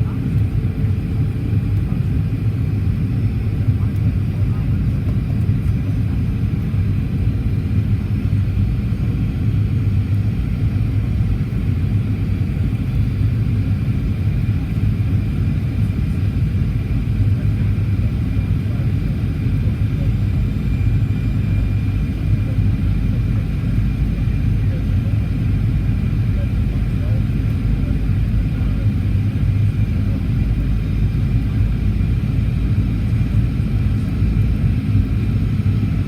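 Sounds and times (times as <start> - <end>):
aircraft cabin engine rumble: 0.0 - 36.0.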